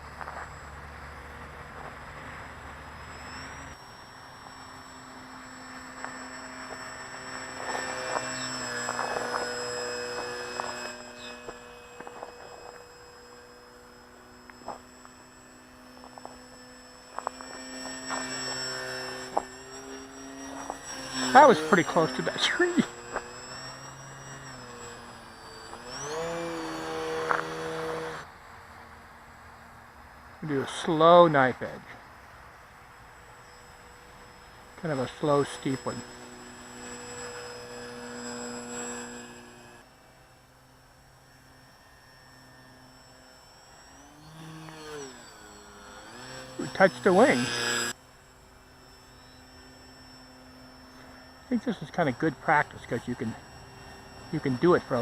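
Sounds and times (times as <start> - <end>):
model plane motor whine: 0.0 - 55.0.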